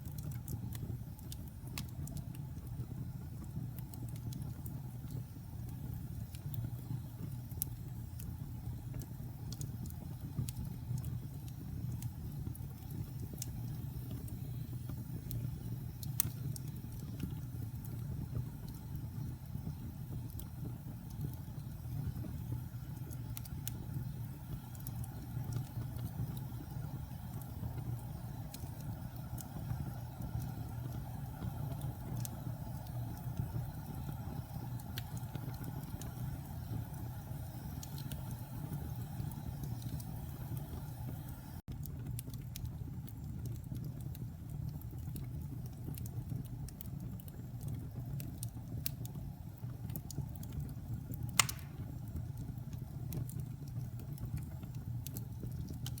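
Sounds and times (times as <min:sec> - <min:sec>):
fire popping: 0:00.0 - 0:56.0
wood fire crackling: 0:00.0 - 0:56.0.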